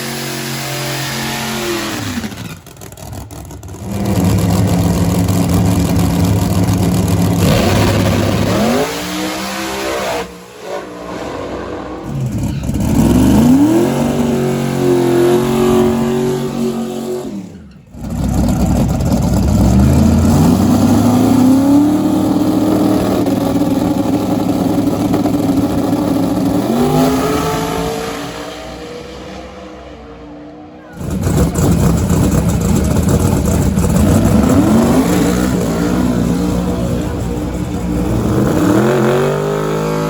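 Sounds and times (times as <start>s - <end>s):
race car engines at high rpm: 0.0s - 40.0s.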